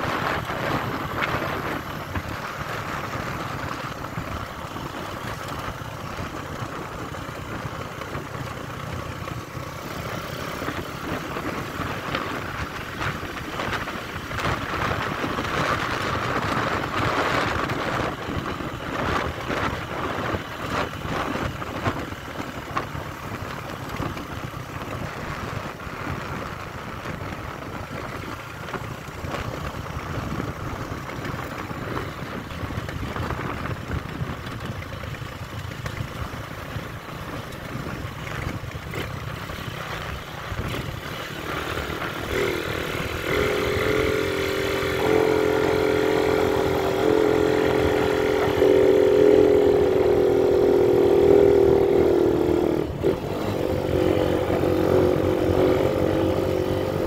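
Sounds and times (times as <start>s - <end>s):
motorcycle engine running: 0.0s - 57.0s
road noise: 0.0s - 57.0s
steady engine drone: 0.0s - 57.0s
wind noise: 0.0s - 57.0s.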